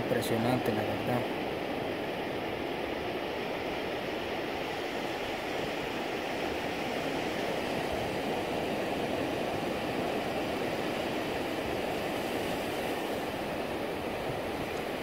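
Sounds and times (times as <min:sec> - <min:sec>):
ocean surf rushing on beach: 0:00.0 - 0:15.0.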